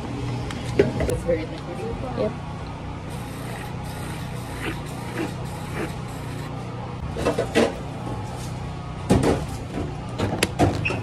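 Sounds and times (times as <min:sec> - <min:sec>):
low hum of bar equipment: 0:00.0 - 0:11.0.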